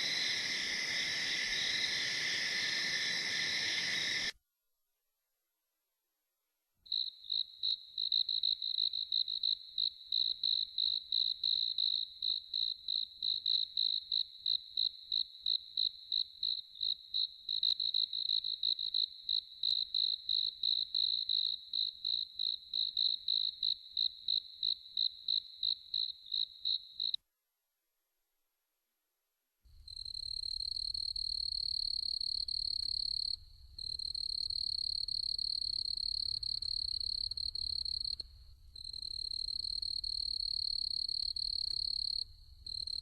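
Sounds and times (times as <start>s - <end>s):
cricket chirping: 0.0s - 4.3s, 6.9s - 27.2s, 29.8s - 43.0s.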